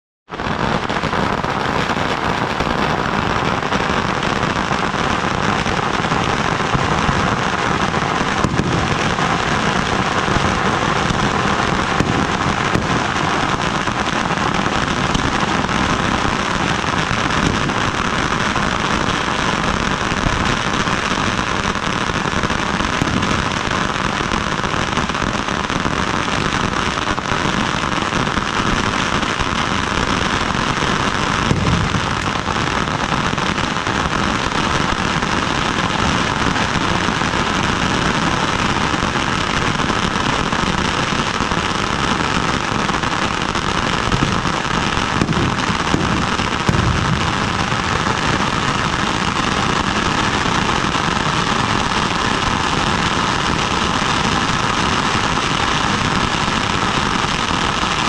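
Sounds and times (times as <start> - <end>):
fireworks crackling and popping: 0.3 - 58.0.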